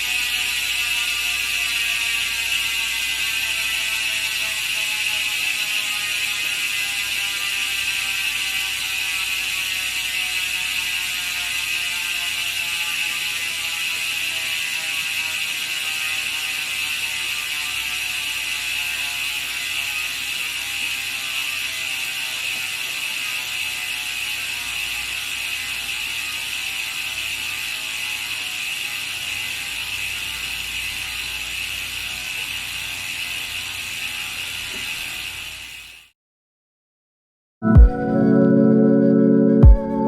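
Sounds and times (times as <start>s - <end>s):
bicycle hub freewheeling buzz: 0.0s - 36.1s.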